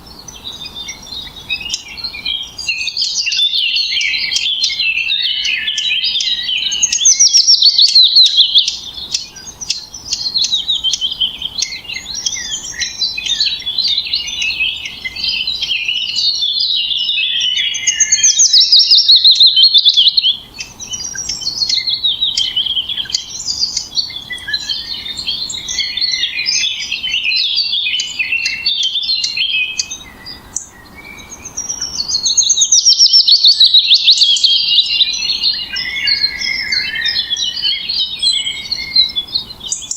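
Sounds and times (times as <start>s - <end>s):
loud trilled bird notes: 0.0s - 39.9s
songbirds chirping and twittering: 0.0s - 39.9s.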